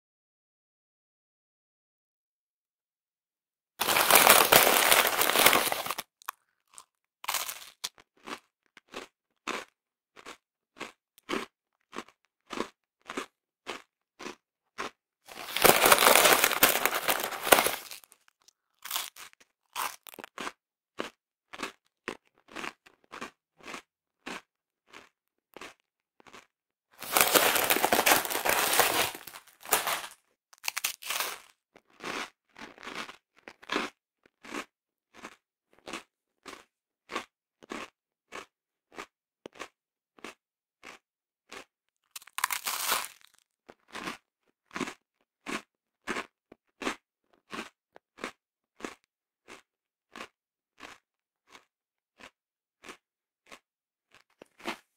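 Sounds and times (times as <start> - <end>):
crunching biscuits: 3.8 - 54.9.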